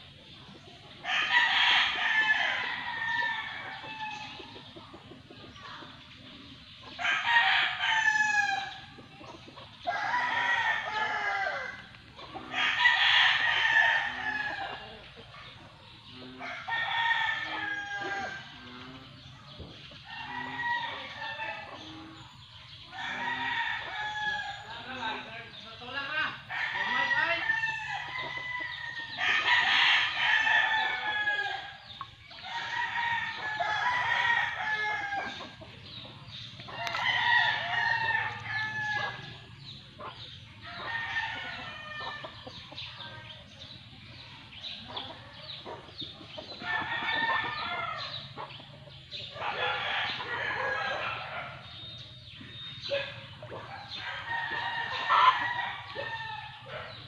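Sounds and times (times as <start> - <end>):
roosters crowing: 1.0 - 4.7, 6.8 - 57.0.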